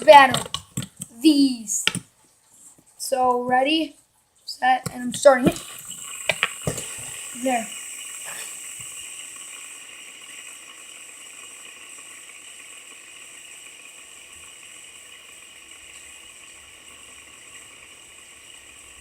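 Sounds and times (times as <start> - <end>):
fidget spinners whirring: 0.0 - 2.0, 3.0 - 19.0.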